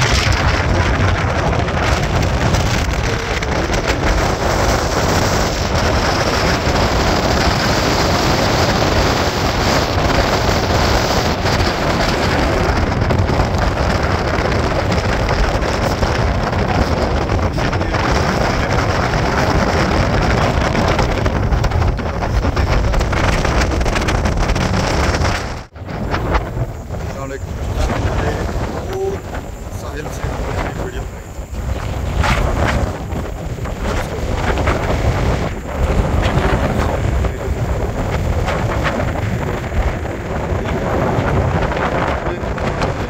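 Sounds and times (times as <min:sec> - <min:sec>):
ferry rumble: 0:00.0 - 0:43.0
wind buffeting microphone: 0:00.0 - 0:43.0.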